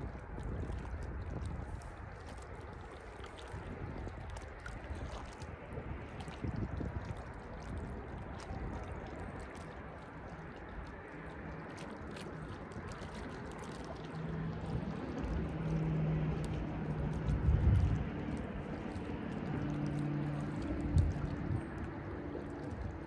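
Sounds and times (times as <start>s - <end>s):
steady low hum: 0.0s - 23.0s
water lapping against boat: 0.0s - 23.0s.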